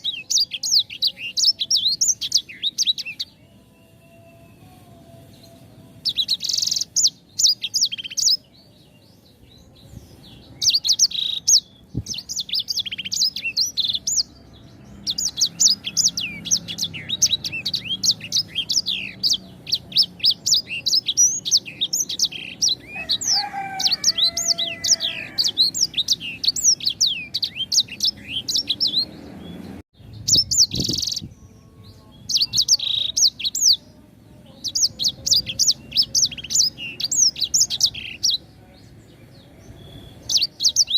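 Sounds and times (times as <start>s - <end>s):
songbird chirping: 0.0s - 40.9s.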